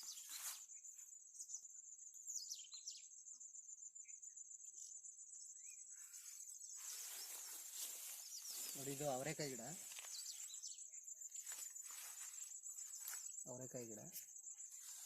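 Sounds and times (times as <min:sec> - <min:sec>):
insects chirring: 0:00.0 - 0:15.0
short insect chirps: 0:00.0 - 0:15.0.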